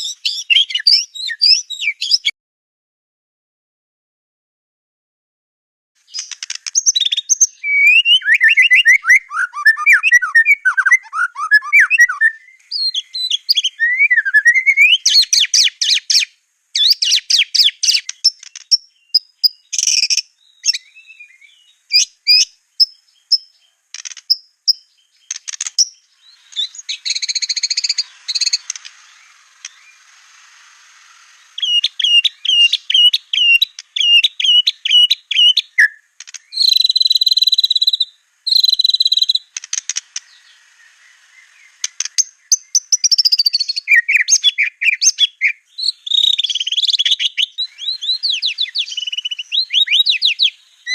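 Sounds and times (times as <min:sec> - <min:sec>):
songbird singing whistled phrases: 0:00.0 - 0:02.4, 0:06.1 - 0:30.4, 0:31.0 - 0:50.9.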